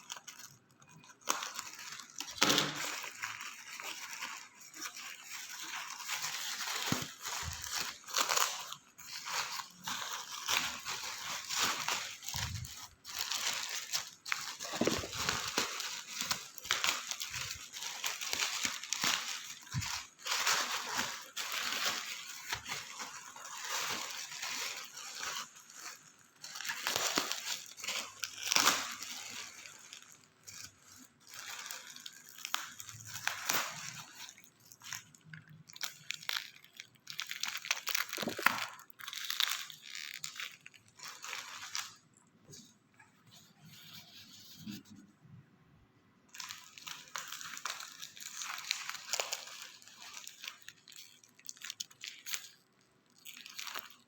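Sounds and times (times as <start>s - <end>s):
plastic wrap crinkling: 0.0s - 45.0s, 46.3s - 54.0s.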